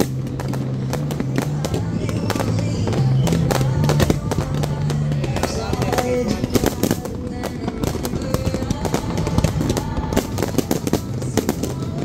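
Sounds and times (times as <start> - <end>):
background music: 0.0 - 12.0
fireworks bursting and crackling: 0.0 - 12.0.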